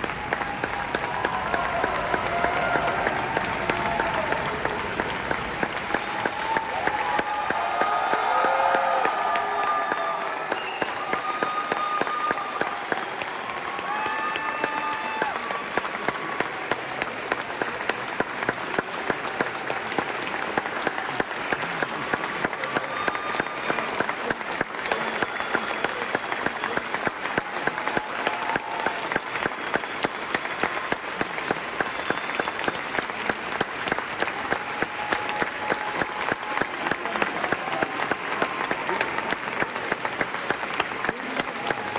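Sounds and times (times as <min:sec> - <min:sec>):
concert audience applauding: 0:00.0 - 0:41.9
hands clapping close by: 0:00.0 - 0:41.9.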